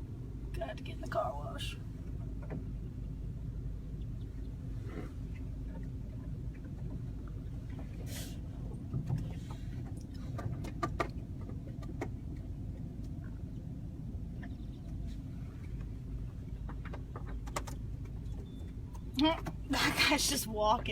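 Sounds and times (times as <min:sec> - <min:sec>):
car engine rumble inside cabin: 0:00.0 - 0:20.9.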